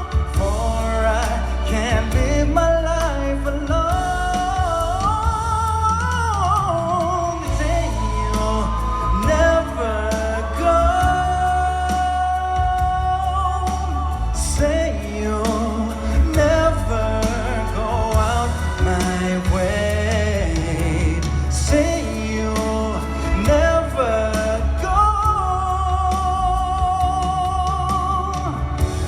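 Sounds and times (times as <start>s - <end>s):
person singing sliding notes: 0.0s - 29.0s
pop band with steady bass: 0.0s - 29.0s.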